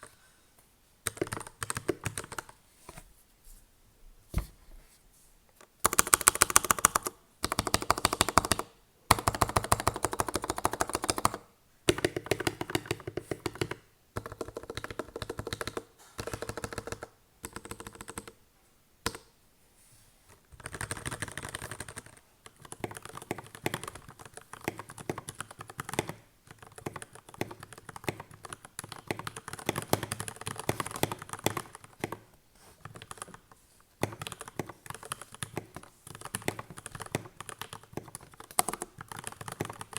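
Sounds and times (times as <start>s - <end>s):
mechanical keyboard typing: 1.1s - 2.6s, 5.8s - 18.4s, 20.6s - 39.9s.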